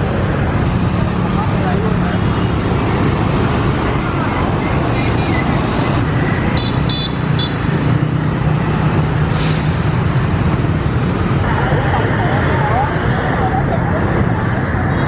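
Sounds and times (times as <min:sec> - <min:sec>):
street traffic engine drone: 0:00.0 - 0:15.0.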